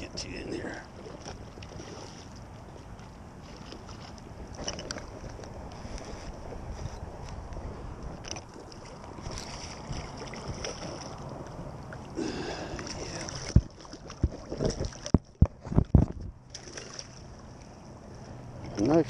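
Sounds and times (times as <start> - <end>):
water lapping: 0.0 - 19.0
wind: 0.0 - 19.0.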